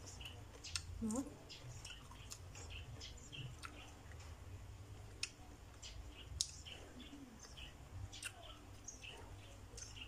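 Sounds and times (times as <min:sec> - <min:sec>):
person chewing food: 0:00.0 - 0:04.4, 0:05.0 - 0:10.0.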